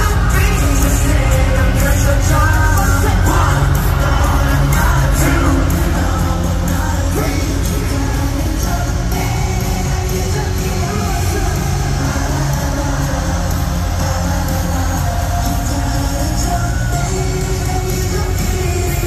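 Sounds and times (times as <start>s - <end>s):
heavy bass beat: 0.0s - 19.0s
live pop concert music: 0.0s - 19.0s
person singing: 0.0s - 19.0s.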